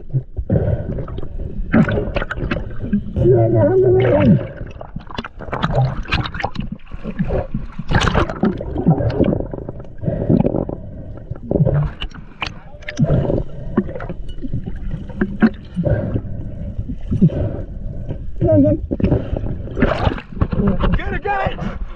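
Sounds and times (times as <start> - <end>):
water splashing and gurgling: 0.0 - 21.8.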